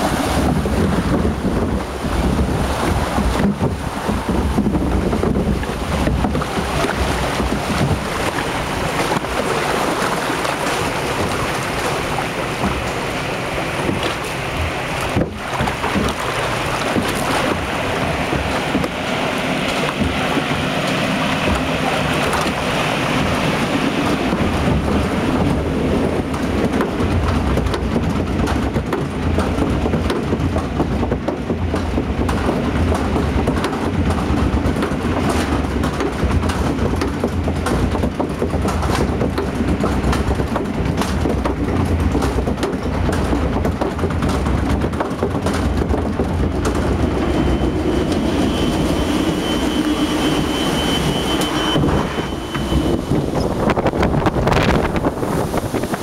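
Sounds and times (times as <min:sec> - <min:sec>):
low rumble of lift: 0:00.0 - 0:56.0
water rushing along flume: 0:00.0 - 0:56.0
wind buffeting microphone: 0:00.0 - 0:56.0.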